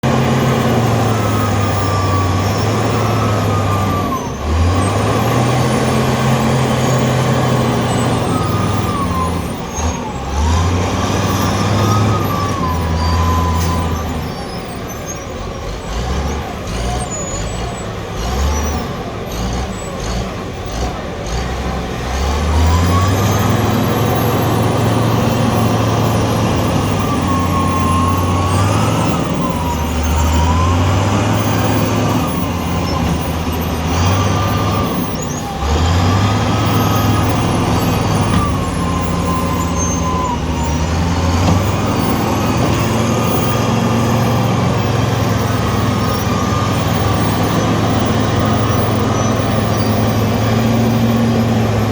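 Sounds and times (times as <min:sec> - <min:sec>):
diesel engine revving: 0:00.0 - 0:51.9.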